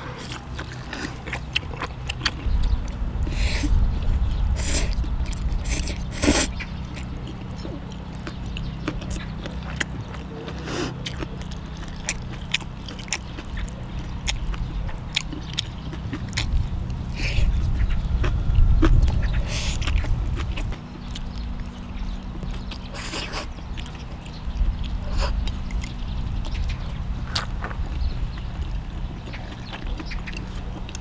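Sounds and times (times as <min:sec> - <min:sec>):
chewing and biting: 0:00.0 - 0:31.0
low hum: 0:00.0 - 0:31.0.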